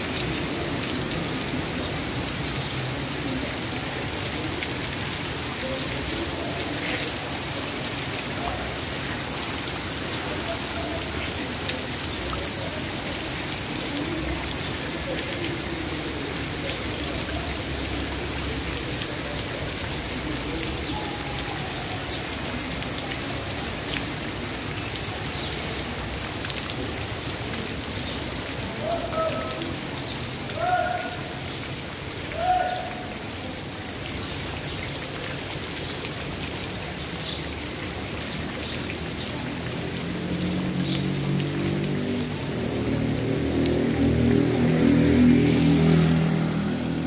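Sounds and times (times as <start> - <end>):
rain on wet pavement: 0.0 - 47.0.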